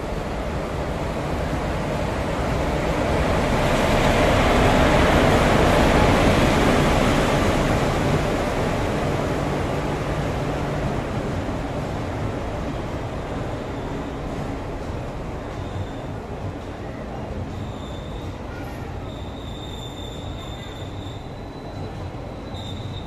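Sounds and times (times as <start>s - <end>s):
locomotive passing: 0.0s - 18.5s
coach wheels rumbling on rails: 0.0s - 23.0s.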